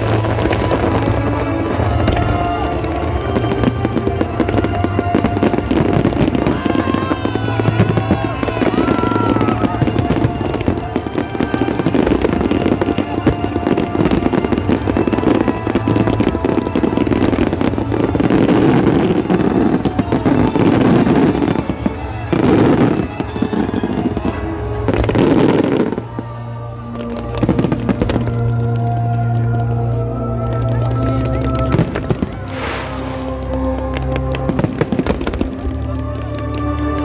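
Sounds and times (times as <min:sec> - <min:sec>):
fireworks crackling and popping: 0:00.0 - 0:29.6, 0:30.4 - 0:37.0
background music: 0:00.0 - 0:37.0.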